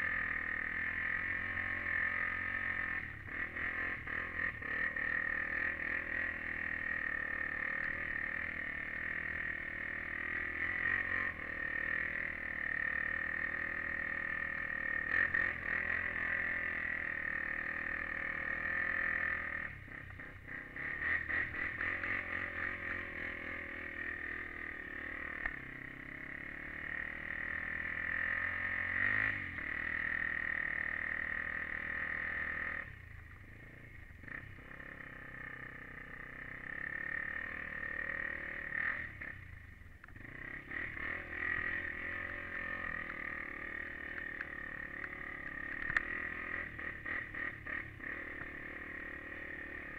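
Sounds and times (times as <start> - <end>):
quad engine running: 0.0 - 49.9.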